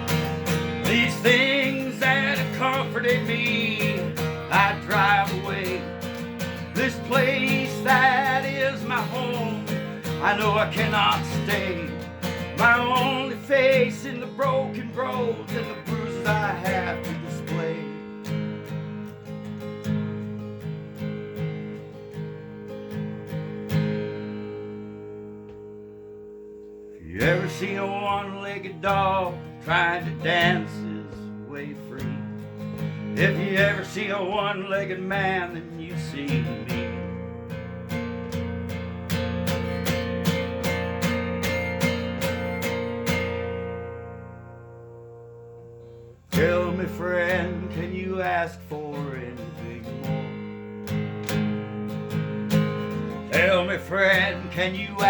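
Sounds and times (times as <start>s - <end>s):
acoustic guitar strummed and picked: 0.0s - 55.0s.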